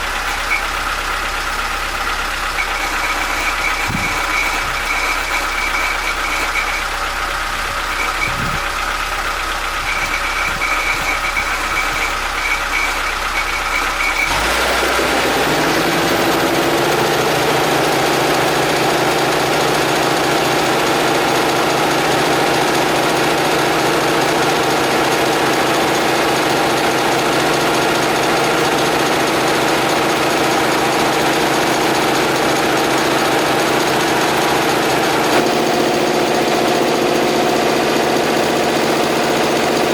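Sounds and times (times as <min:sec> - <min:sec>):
air compressor running: 0:00.0 - 0:39.9
motor starting and rising in pitch: 0:02.5 - 0:06.9, 0:07.8 - 0:39.9.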